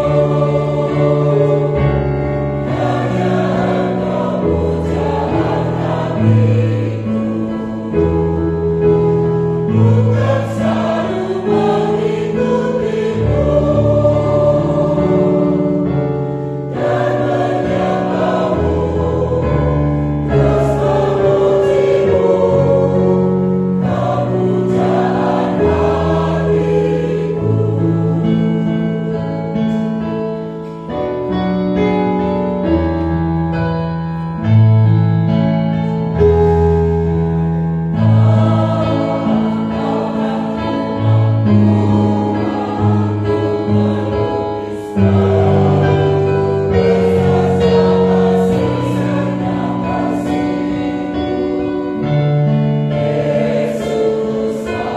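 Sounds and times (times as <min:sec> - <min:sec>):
mixed choir singing a hymn: 0:00.0 - 0:33.7, 0:35.7 - 0:54.9.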